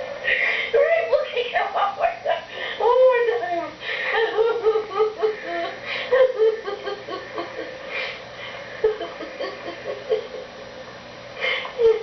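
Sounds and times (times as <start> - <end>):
woman laughing: 0.3 - 10.7, 11.4 - 12.0.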